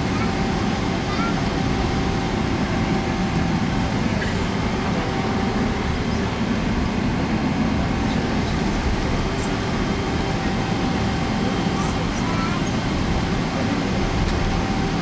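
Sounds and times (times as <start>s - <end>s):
airliner engine and cabin rumble: 0.0s - 15.0s.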